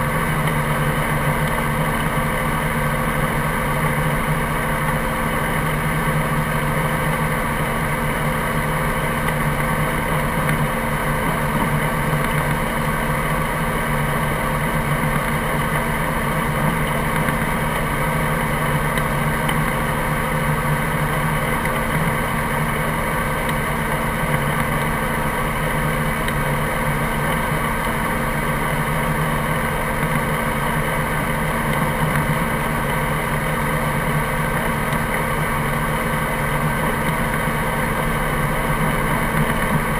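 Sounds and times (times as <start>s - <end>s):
engine whine: 0.0s - 39.9s.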